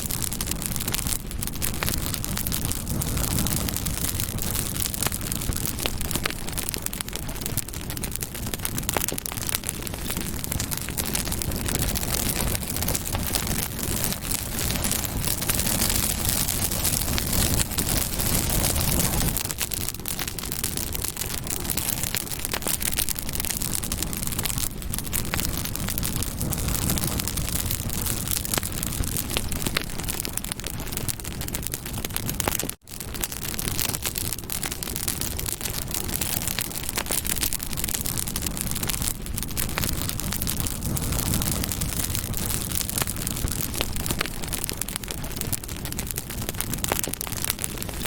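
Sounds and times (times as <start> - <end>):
burning wood crackling and popping: 0.0 - 48.0
low rush of flame: 0.0 - 48.0.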